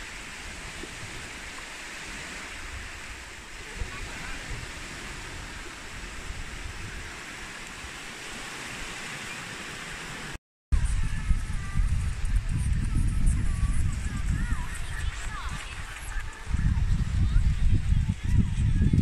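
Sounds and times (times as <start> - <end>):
wind rumbling on microphone: 0.0 - 9.8, 10.7 - 19.0
waves washing onto beach: 0.0 - 10.4, 11.9 - 18.6.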